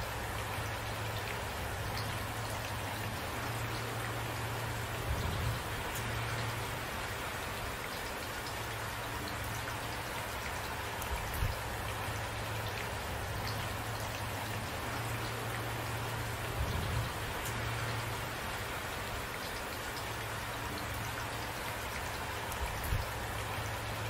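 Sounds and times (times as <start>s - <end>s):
rain hissing with drops ticking: 0.0s - 24.0s.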